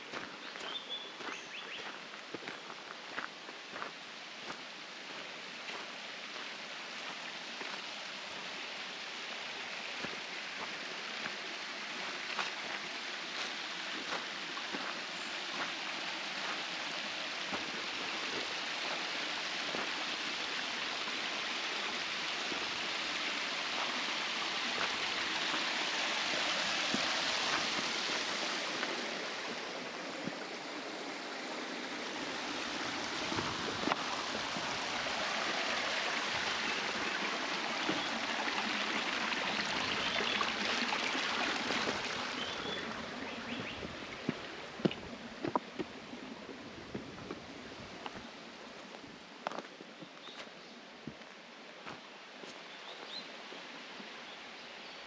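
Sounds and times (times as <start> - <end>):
stream flowing over rocks: 0.0 - 54.8.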